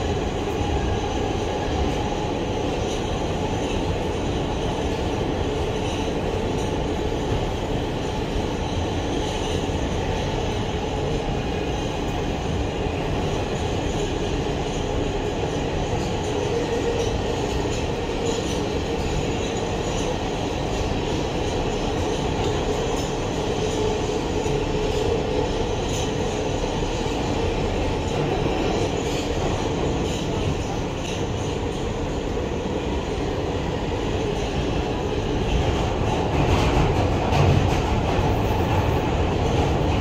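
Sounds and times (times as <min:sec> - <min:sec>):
rail clatter: 0:00.0 - 0:40.0
steel wheels rumbling on rails: 0:00.0 - 0:40.0.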